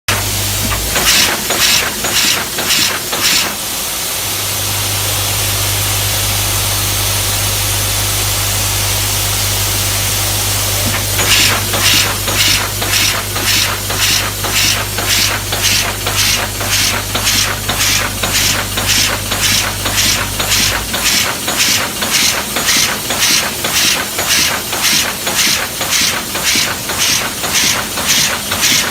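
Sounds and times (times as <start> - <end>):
machine hissing strokes: 0.1 - 5.4, 10.6 - 28.9.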